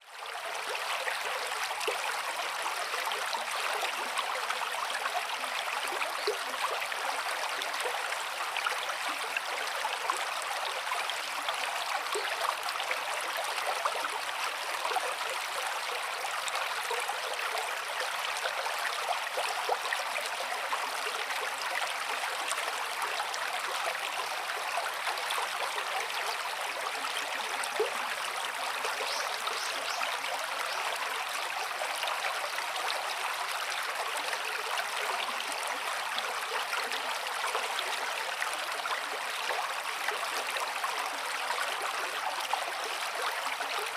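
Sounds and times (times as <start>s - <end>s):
stream of running water: 0.0s - 43.9s.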